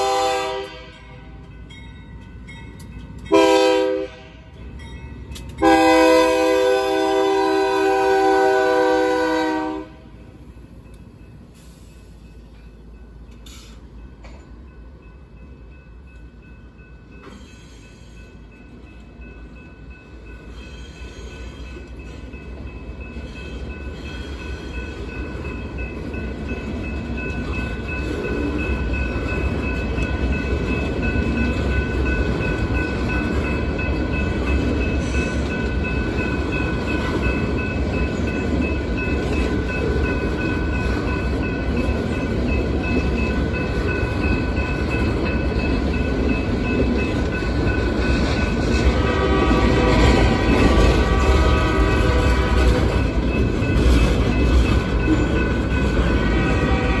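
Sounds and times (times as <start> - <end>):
crossing warning bell ringing: 0.0 - 57.0
freight train rumbling past: 0.0 - 57.0.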